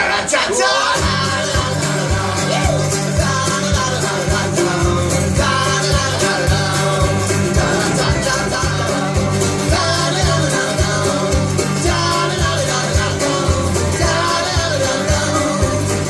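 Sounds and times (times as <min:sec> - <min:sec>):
live folk-rock band: 0:00.0 - 0:16.0
person singing: 0:00.0 - 0:16.0
drums steady beat: 0:01.0 - 0:16.0.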